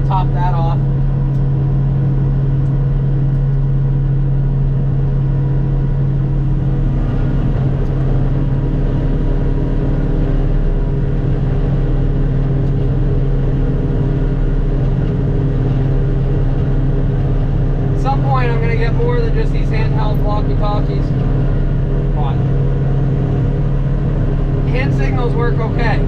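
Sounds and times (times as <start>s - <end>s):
harvester engine droning: 0.0s - 26.0s.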